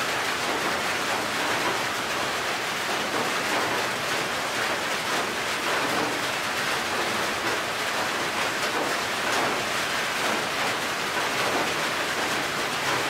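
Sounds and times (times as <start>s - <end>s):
rain on a metal roof: 0.0s - 13.0s.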